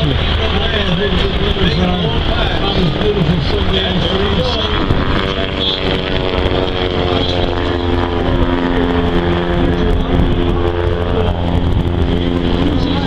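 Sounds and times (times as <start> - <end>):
light plane engine droning: 0.0 - 13.0.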